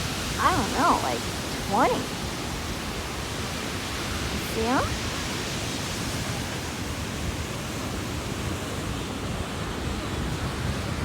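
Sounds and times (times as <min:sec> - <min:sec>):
ocean surf: 0:00.0 - 0:11.0.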